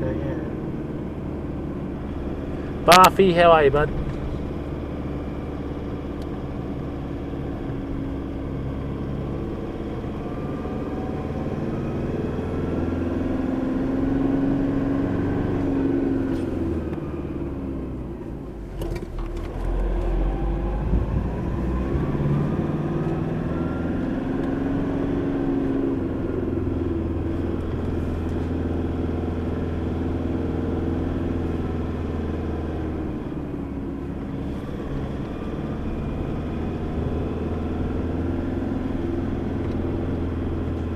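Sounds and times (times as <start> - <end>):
vehicle engine revving while driving: 0.0 - 40.9.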